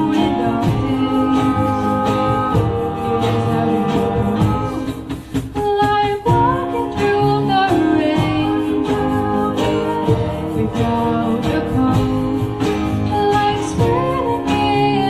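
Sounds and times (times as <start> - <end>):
person singing: 0.0 - 15.0
pop-rock band playing: 0.0 - 15.0.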